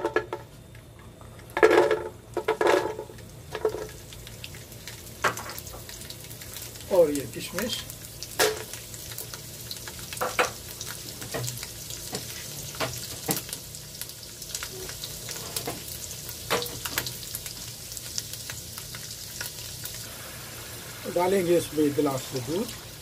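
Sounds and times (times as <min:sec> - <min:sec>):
nuts sizzling in oil: 0:02.0 - 0:23.0.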